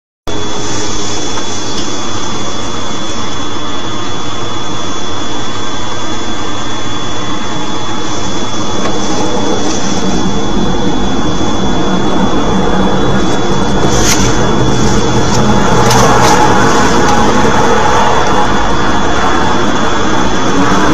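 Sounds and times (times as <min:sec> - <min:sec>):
loud rushing engine noise: 0:00.3 - 0:20.9
thin high whine: 0:00.3 - 0:20.9.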